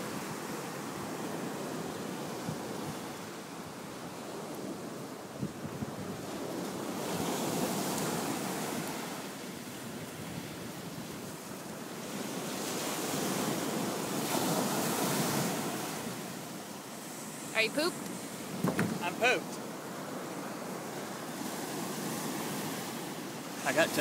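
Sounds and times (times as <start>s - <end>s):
ocean surf breaking: 0.0s - 24.0s
wind on microphone: 0.0s - 24.0s.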